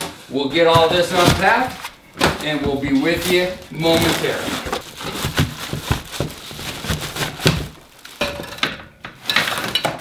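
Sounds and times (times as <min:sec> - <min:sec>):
dull thunks of cardboard and parts: 0:00.0 - 0:10.0
plastic wrap rustling: 0:00.0 - 0:10.0.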